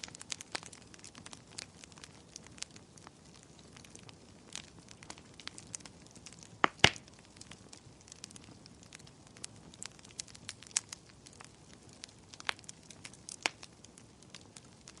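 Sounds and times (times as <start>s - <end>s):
fire crackling and popping: 0.0s - 15.0s
fire soft steady hiss: 0.0s - 15.0s.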